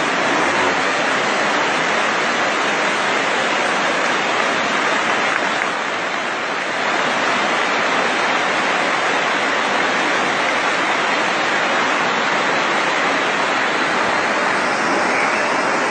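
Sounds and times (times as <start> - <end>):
waterfall rushing over rocks: 0.0 - 15.9.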